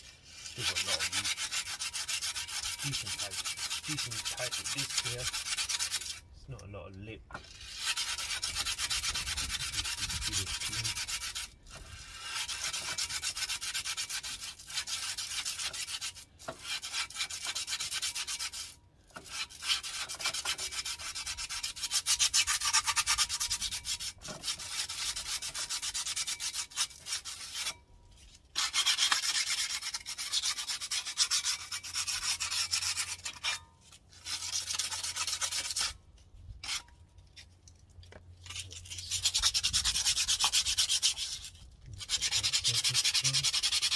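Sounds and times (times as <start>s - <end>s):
sandpaper rubbing on brake disc: 0.2s - 6.2s, 7.5s - 36.0s, 38.4s - 43.9s.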